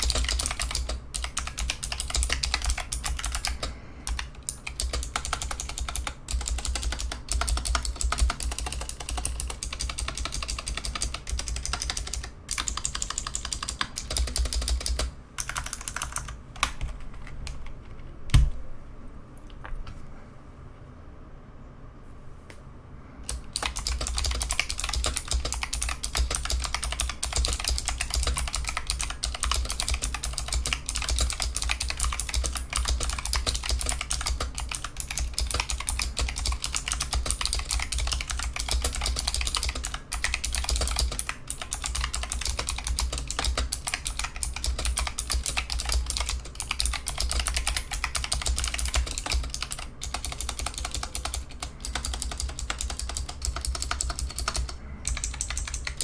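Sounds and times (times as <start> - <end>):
fast clicky keyboard typing: 0.0 - 18.0, 23.3 - 56.0.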